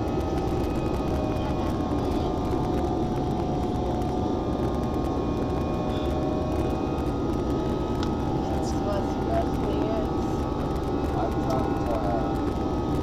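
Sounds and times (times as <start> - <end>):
faint whining tones: 0.0 - 13.0
jet engines at climb power: 0.0 - 13.0.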